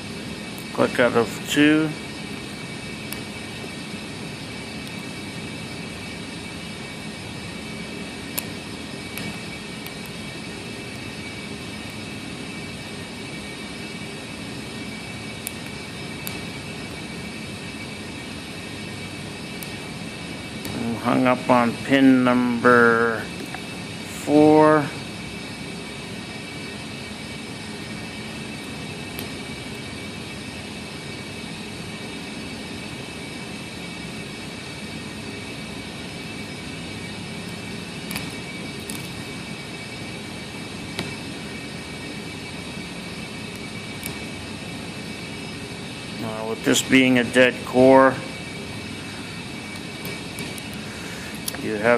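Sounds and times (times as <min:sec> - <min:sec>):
faint high whine: 0:00.0 - 0:51.9
steady whirring noise: 0:00.0 - 0:51.9.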